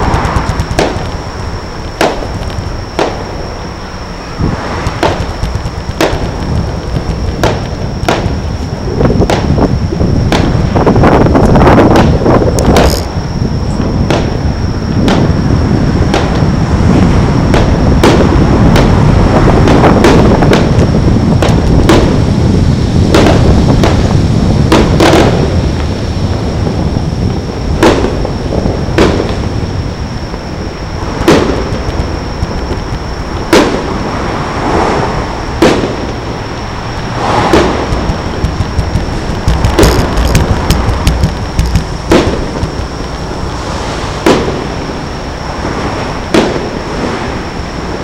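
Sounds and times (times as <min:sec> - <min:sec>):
fireworks booming: 0:00.0 - 0:48.0
sharp firework reports: 0:00.0 - 0:48.0
steady low rumble: 0:00.0 - 0:48.0
wind on microphone: 0:00.0 - 0:48.0.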